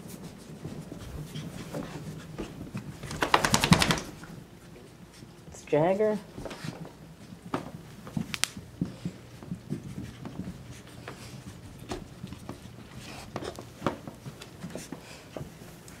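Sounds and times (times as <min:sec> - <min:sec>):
dogs scuffling and tapping: 0:00.0 - 0:16.0.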